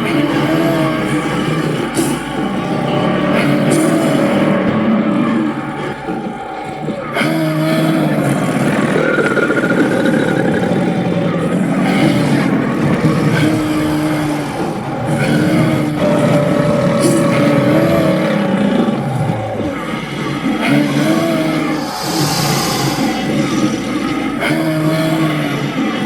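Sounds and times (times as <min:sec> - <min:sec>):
creature rasping growls: 0:00.0 - 0:26.0
wavering creature cries: 0:00.0 - 0:26.0.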